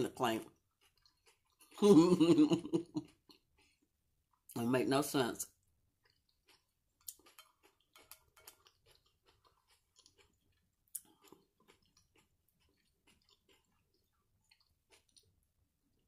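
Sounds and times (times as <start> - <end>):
chewing and mouth sounds: 0.4 - 4.6, 5.9 - 16.0.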